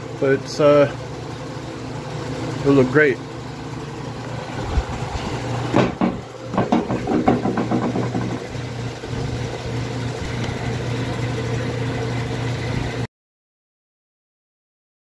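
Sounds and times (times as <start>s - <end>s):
motor humming: 0.0s - 13.1s.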